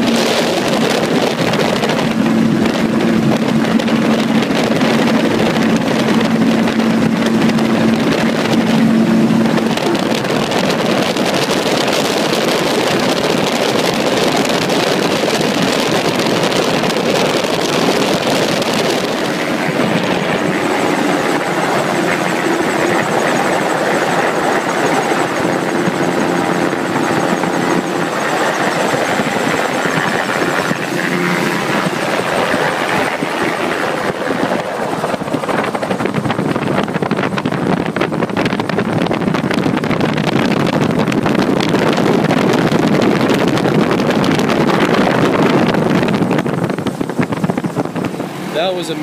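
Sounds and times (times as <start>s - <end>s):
gyrocopter engine and propeller: 0.0s - 49.0s
wind rush on microphone: 0.0s - 49.0s.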